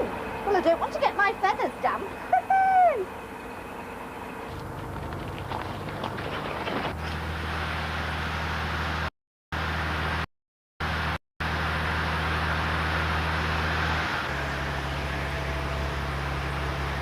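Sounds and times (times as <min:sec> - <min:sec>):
fire engine pump humming: 0:00.0 - 0:17.0.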